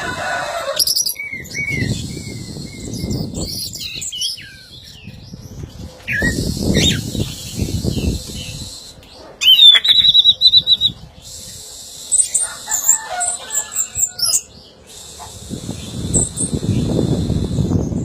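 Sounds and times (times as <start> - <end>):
thrush singing trills and whistles: 0.0 - 18.0.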